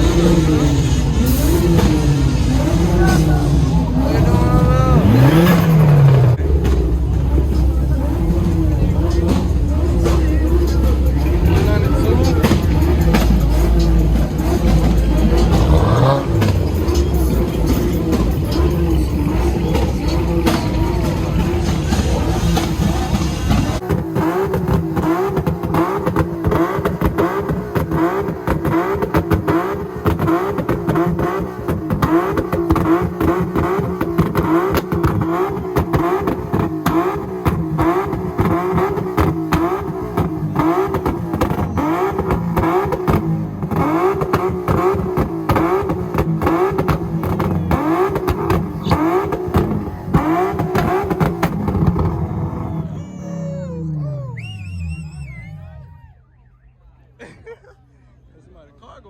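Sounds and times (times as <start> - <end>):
car engine revving: 0.0 - 56.8.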